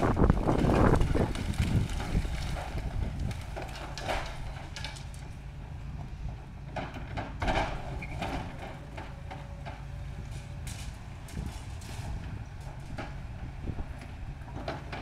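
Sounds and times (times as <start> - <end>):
crumbling masonry rumble: 0.0 - 15.0
excavator engine: 0.0 - 15.0.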